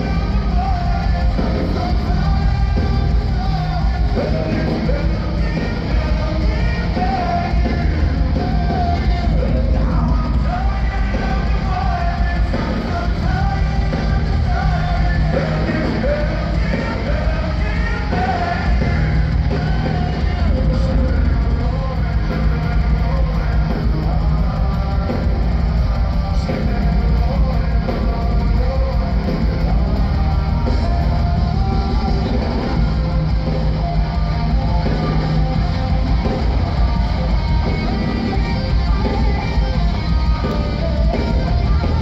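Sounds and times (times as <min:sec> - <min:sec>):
live heavy metal band: 0:00.0 - 0:42.0.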